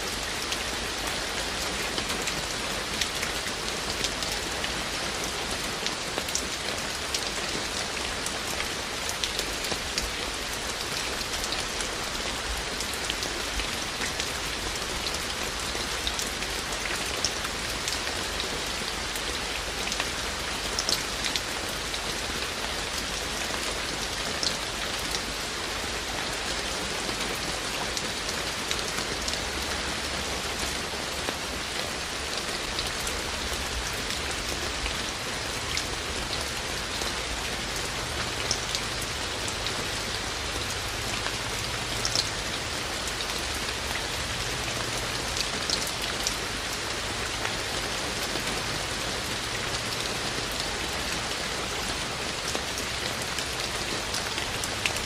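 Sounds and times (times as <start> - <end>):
raindrops ticking on a surface: 0.0 - 55.0.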